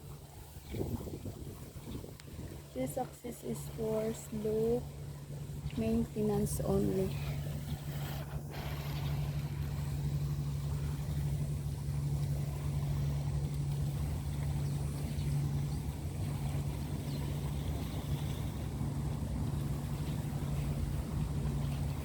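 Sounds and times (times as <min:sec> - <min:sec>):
engine droning steadily: 0:00.0 - 0:22.0.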